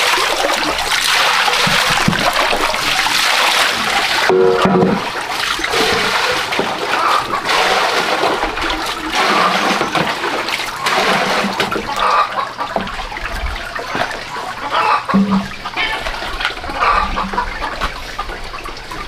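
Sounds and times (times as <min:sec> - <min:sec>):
water pouring and splashing: 0:00.0 - 0:19.0.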